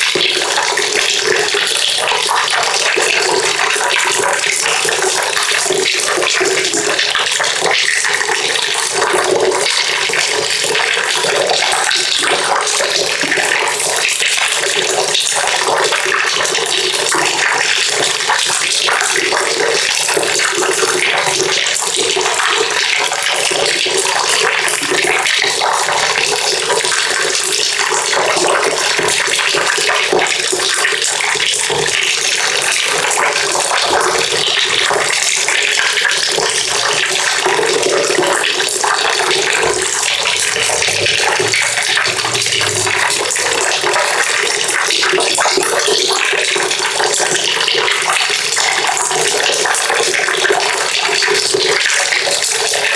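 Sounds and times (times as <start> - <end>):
water pouring into bucket: 0.0 - 52.9.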